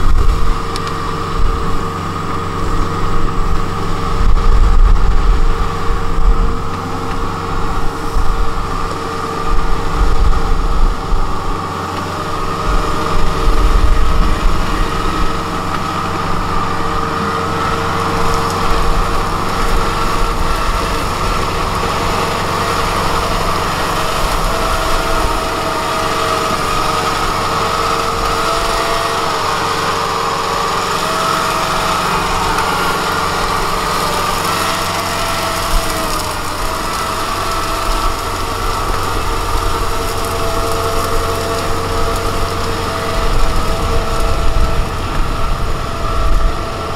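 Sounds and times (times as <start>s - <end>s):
combine harvester engine drone: 0.0s - 46.9s.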